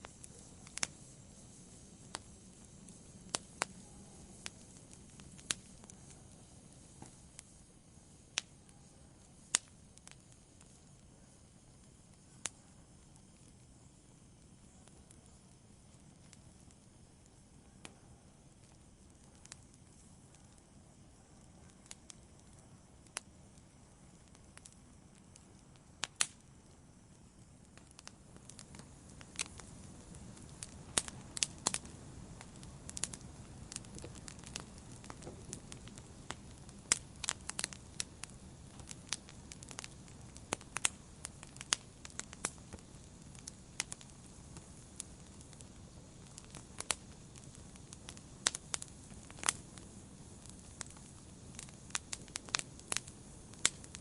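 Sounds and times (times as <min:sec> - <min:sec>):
campfire crackling and popping: 0:00.0 - 0:54.0
fire hissing: 0:00.0 - 0:54.0.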